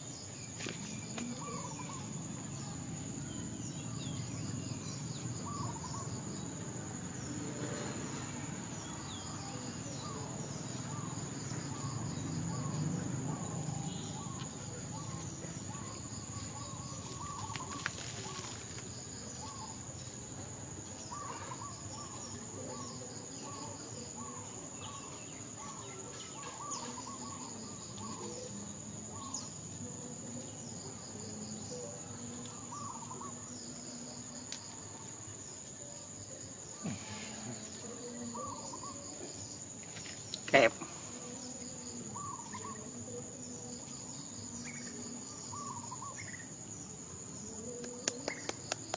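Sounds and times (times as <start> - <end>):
insects trilling: 0.0 - 48.9.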